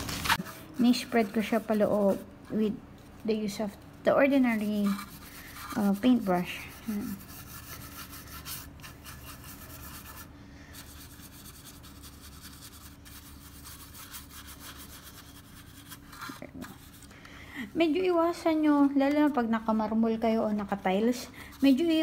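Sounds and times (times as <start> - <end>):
paintbrush scrubbing on plastic: 0.0 - 2.6, 3.2 - 17.1, 17.9 - 22.0.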